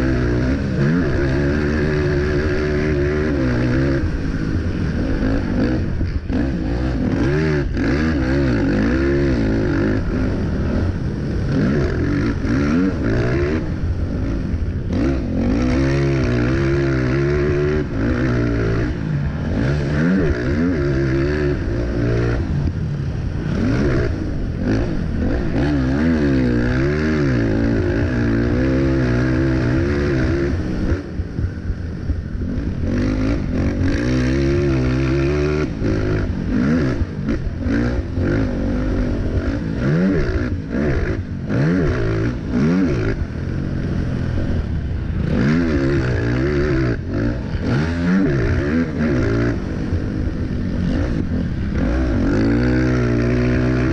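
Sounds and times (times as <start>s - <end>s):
quad engine revving: 0.0s - 53.9s.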